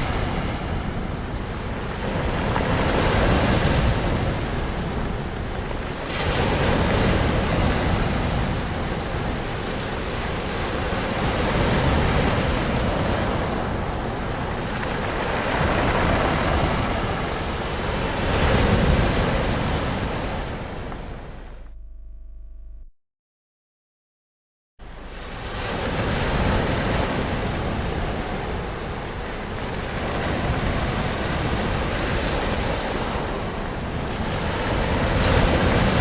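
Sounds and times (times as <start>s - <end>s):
ocean waves washing on shore: 0.0s - 21.6s, 24.8s - 36.0s.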